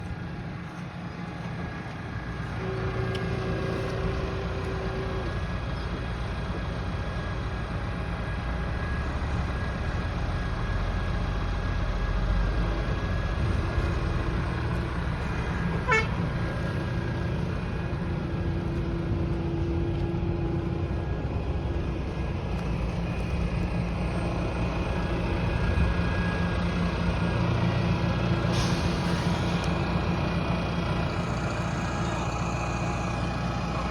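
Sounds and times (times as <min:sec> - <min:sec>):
tractor diesel engine rumbling: 0:00.0 - 0:33.9.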